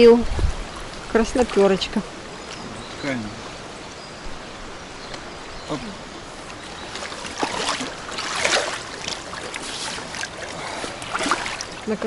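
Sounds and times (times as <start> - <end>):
shallow river current: 0.0 - 12.0
splashing and sloshing water: 0.4 - 3.7, 5.2 - 12.0.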